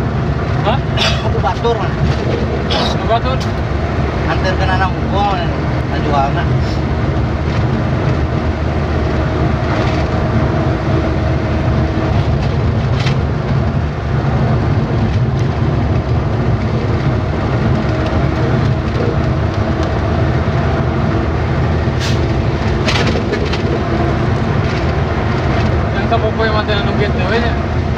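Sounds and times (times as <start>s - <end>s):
road noise: 0.0s - 27.9s
truck engine droning: 0.0s - 27.9s.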